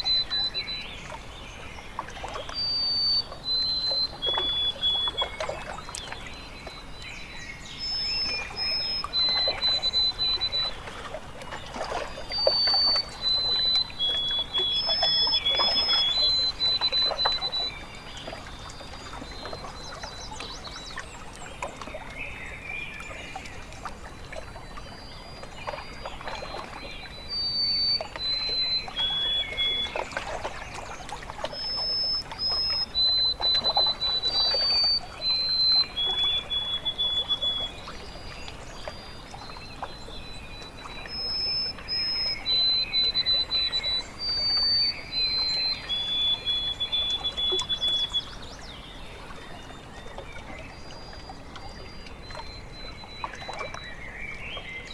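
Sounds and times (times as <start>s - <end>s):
bird singing whistled notes: 0.0s - 10.9s, 12.2s - 21.0s, 24.8s - 54.9s
water lapping at shore: 0.0s - 54.9s.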